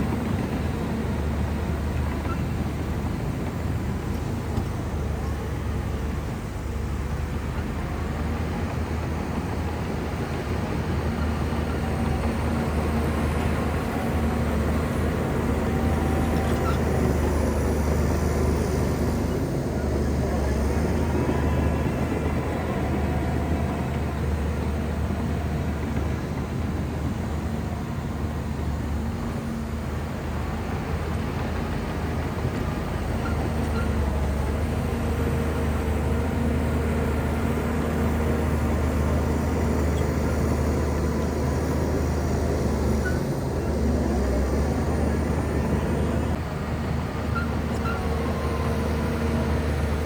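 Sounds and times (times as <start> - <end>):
bulldozer diesel engine running: 0.0 - 50.0.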